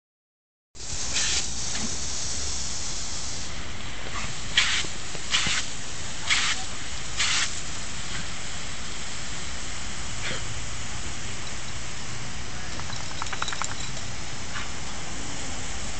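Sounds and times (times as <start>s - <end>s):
water jet hissing: 0.8s - 15.9s.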